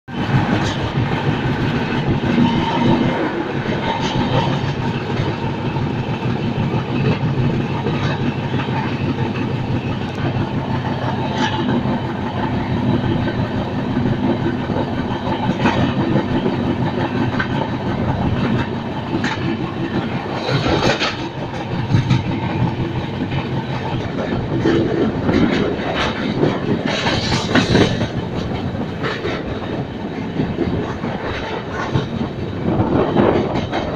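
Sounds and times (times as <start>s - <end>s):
train rumbling on rails: 0.1s - 33.9s.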